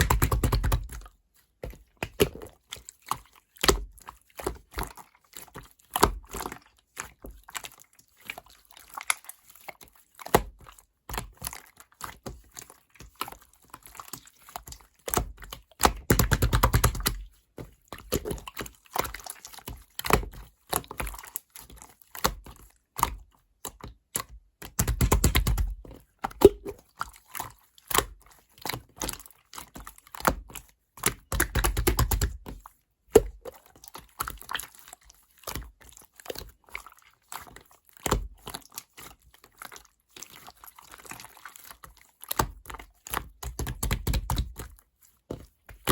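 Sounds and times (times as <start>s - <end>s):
slime squishing by hand: 0.0s - 45.9s.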